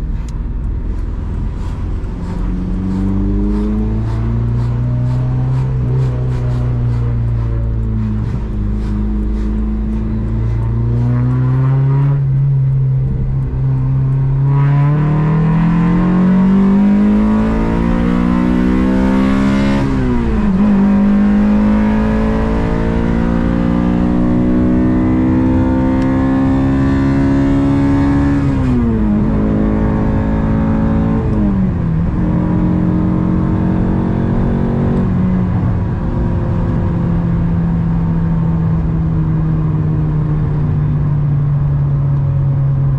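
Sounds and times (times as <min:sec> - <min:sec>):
car engine revving through gears: 0:00.0 - 0:42.9.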